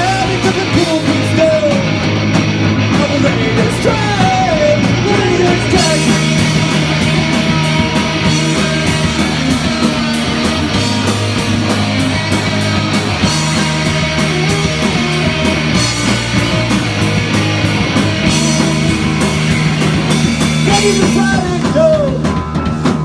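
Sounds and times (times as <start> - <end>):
punk rock band playing: 0.0 - 23.0.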